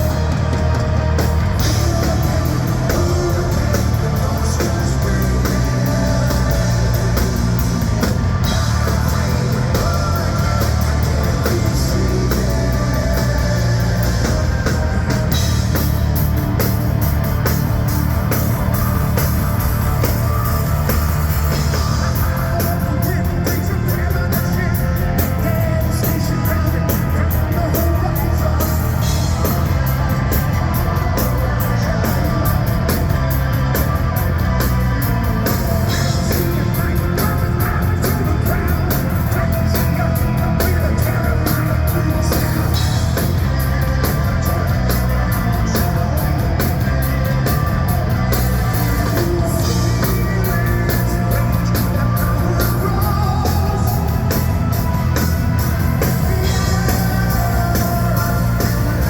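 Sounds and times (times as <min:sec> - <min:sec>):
bass guitar: 0:00.0 - 0:59.0
drums and cymbals: 0:00.0 - 0:59.0
electric guitar: 0:00.0 - 0:59.0.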